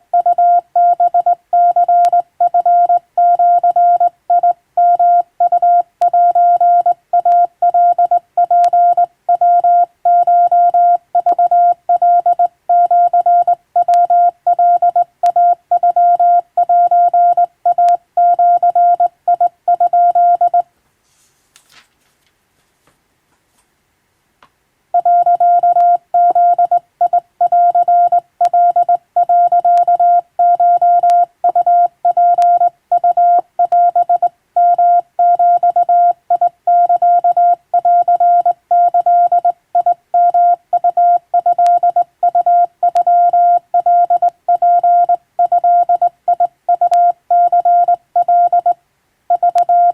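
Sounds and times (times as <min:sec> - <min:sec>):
morse code tone: 0:00.2 - 0:20.6, 0:25.0 - 0:49.9.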